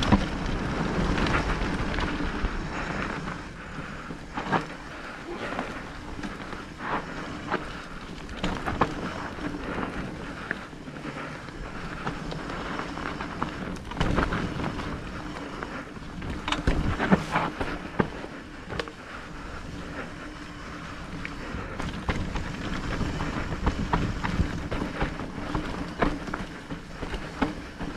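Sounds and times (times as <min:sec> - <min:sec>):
bike knocking and rattling: 0:00.0 - 0:27.9
tyres rolling over dirt and stones: 0:00.0 - 0:27.9.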